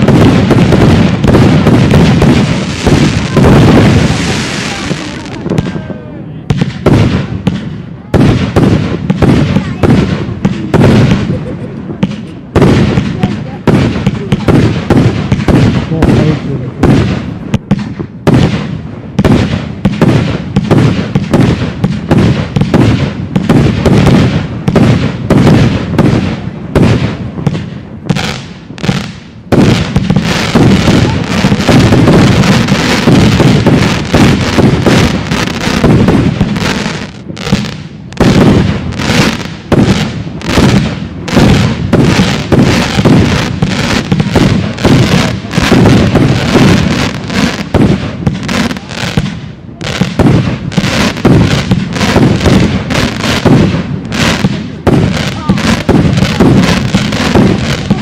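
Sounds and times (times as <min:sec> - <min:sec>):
fireworks launching and bursting: 0:00.0 - 0:58.0.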